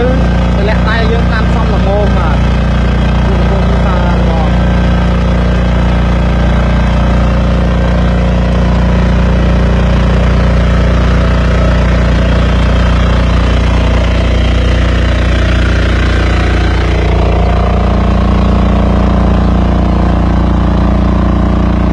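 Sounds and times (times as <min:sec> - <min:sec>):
walking tractor engine running: 0:00.0 - 0:21.9.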